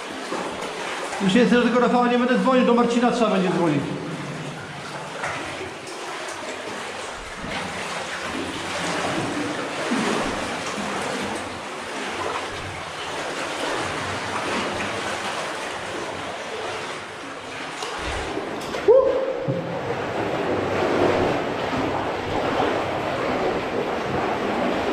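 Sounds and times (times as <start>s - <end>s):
water splashing and rushing: 0.0s - 24.9s.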